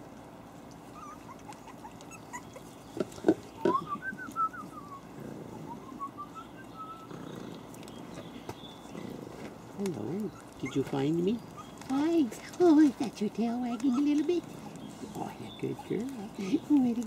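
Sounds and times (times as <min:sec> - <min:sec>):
puppies whimpering: 0:00.6 - 0:17.0.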